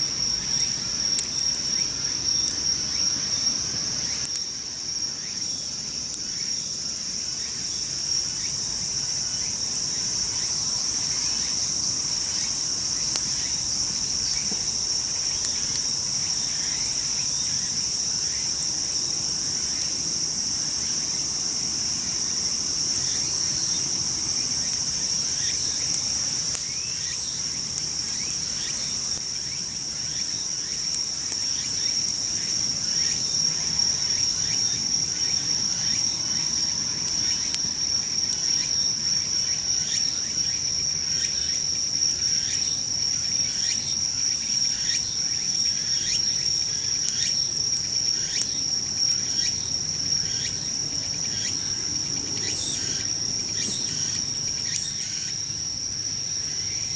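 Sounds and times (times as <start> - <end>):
campfire crackling: 0.0 - 6.2, 7.1 - 40.5, 44.4 - 56.8
insects trilling: 0.0 - 56.9.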